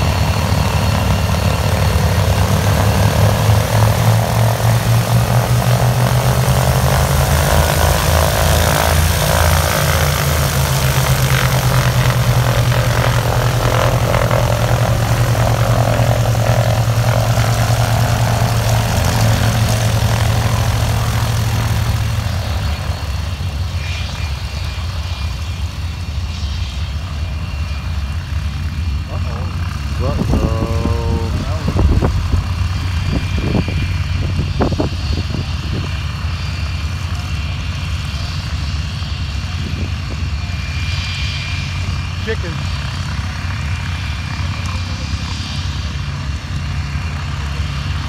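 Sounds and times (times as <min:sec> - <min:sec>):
propeller aircraft engines drone: 0:00.0 - 0:48.0.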